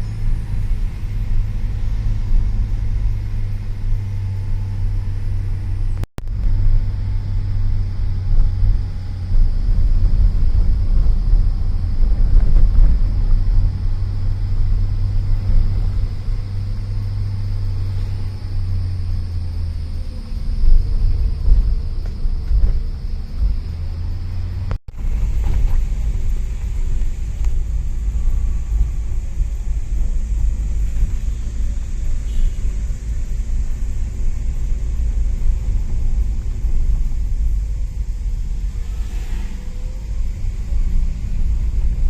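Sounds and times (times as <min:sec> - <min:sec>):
vehicle driving rumble: 0:00.0 - 0:42.0.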